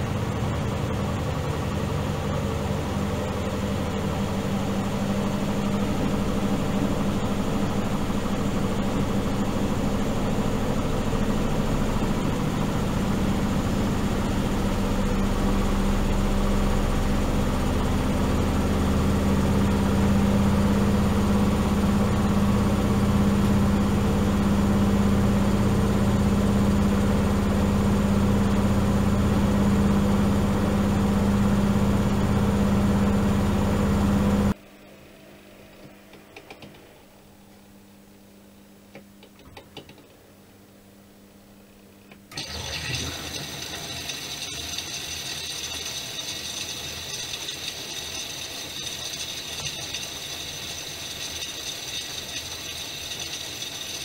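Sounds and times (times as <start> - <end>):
washing machine spinning: 0.0 - 34.6, 42.1 - 54.0.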